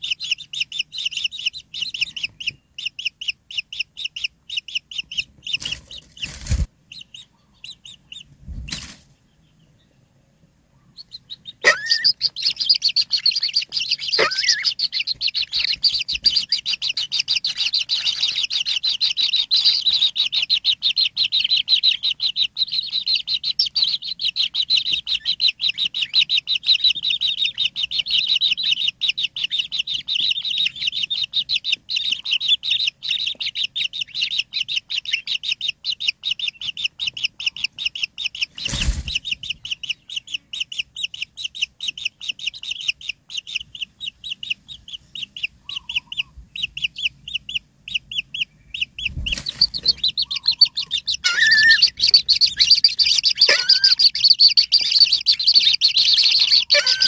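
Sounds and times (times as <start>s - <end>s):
nestlings high chirping: 0.0s - 57.0s.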